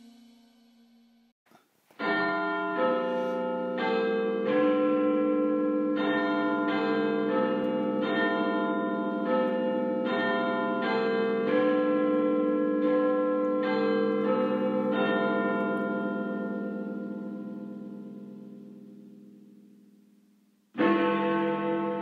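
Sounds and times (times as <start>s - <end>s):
large tower bells ringing: 2.0s - 20.1s, 20.7s - 22.0s.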